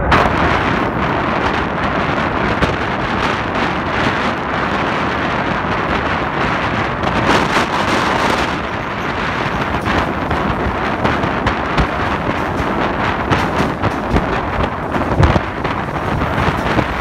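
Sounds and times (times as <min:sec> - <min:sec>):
train running on track: 0:00.0 - 0:17.0
wind rushing over microphone: 0:00.0 - 0:17.0.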